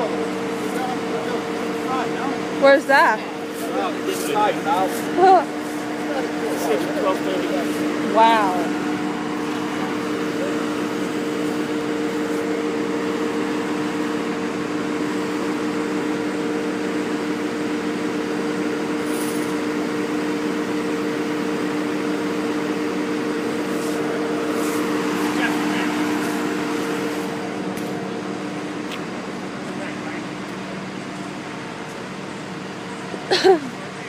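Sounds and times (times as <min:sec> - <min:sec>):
paving machinery humming: 0:00.0 - 0:34.0.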